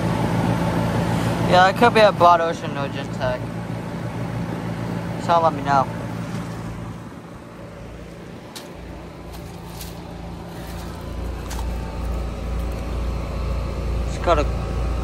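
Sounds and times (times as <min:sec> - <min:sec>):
heat pump unit humming: 0:00.0 - 0:15.0.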